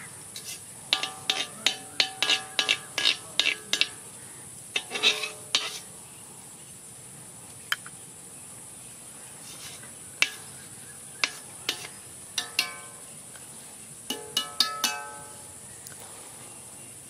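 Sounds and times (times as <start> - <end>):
faint high-pitched hiss: 0.0 - 17.0.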